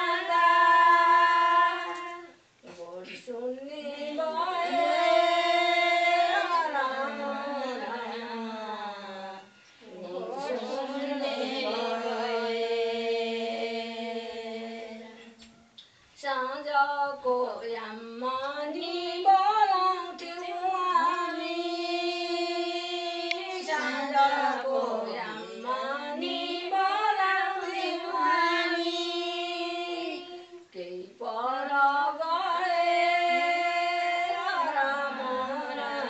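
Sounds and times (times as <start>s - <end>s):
women singing unaccompanied: 0.0s - 36.0s.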